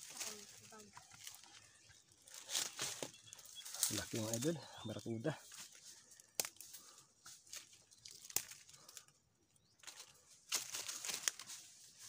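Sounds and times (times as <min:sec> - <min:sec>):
dry leaves rustling and crackling: 0:00.0 - 0:09.1, 0:09.8 - 0:12.0.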